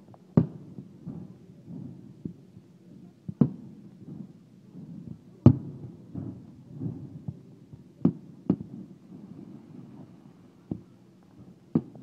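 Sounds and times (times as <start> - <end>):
rumble of firework bursts: 0.0 - 12.0.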